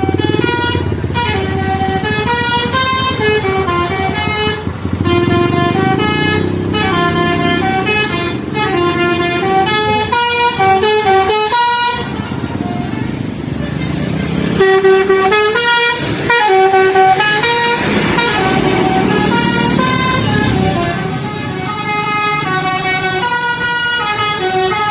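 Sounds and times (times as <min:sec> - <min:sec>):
bus and truck engines rumbling: 0:00.0 - 0:24.9
musical bus horn melody: 0:00.0 - 0:24.9.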